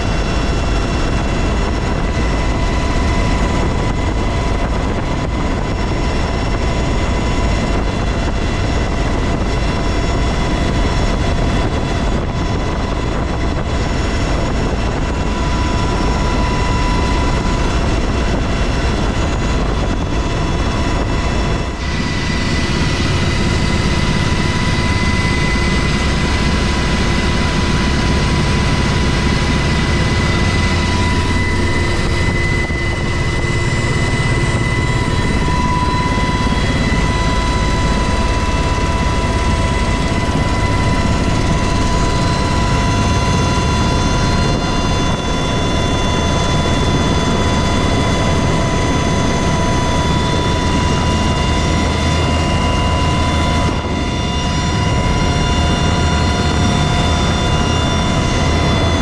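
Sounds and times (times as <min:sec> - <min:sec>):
helicopter rotor and engine noise: 0:00.0 - 0:59.0
high whine: 0:00.0 - 0:59.0.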